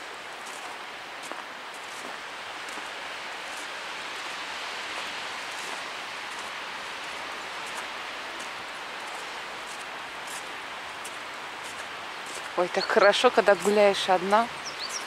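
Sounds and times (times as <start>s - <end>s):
soft footsteps on snow: 0.0s - 15.0s.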